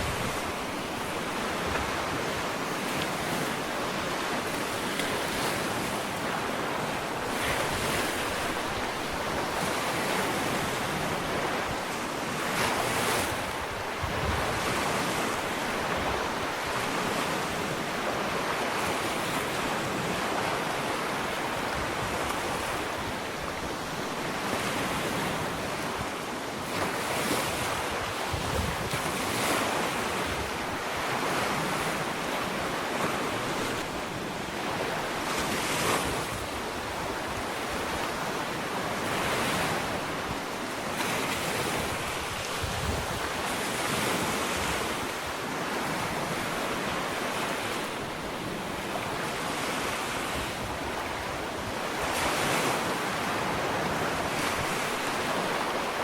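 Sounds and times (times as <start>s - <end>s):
ocean waves breaking on beach: 0.0s - 56.0s
wind noise on microphone: 0.0s - 56.0s.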